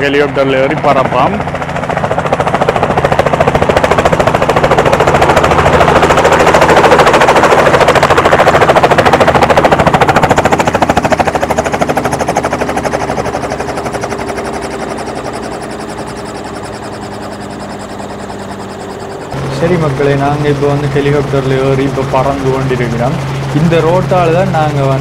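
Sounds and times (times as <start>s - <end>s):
helicopter engine hum: 0.0s - 25.0s
helicopter rotor chopping: 0.0s - 25.0s.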